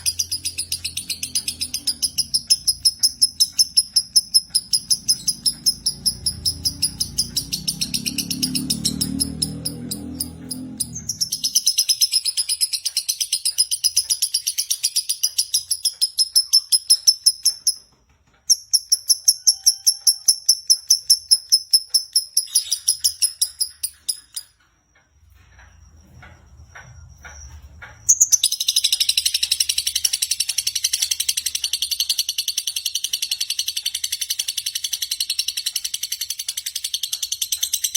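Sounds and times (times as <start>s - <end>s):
lovebird chattering trill: 0.0s - 17.8s, 18.5s - 24.5s, 28.1s - 37.9s.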